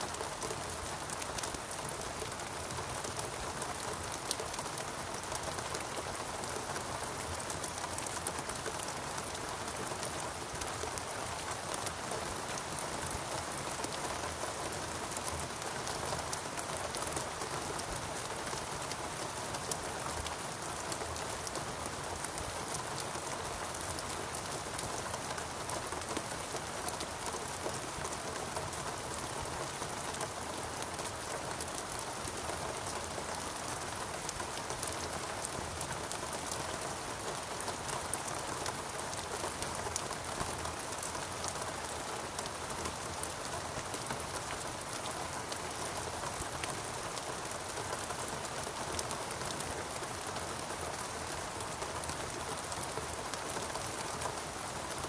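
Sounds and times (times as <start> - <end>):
rain falling on foliage: 0.0 - 55.0.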